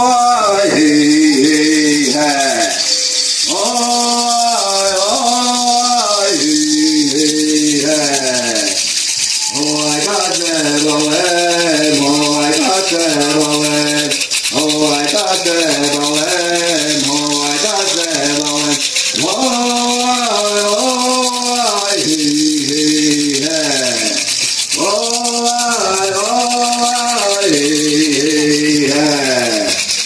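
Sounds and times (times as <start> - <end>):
rattle shaken: 0.0 - 30.0
voices singing a ritual chant: 0.0 - 30.0.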